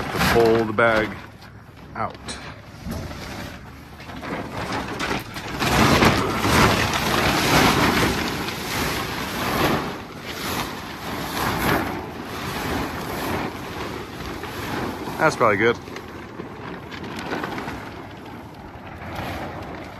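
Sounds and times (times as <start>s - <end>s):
plastic bag rustling and crinkling: 0.0s - 19.9s.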